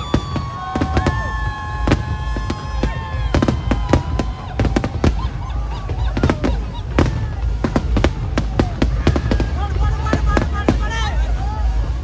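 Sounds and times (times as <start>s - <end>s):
fireworks bangs: 0.0s - 12.0s
fireworks whistling: 0.0s - 12.0s.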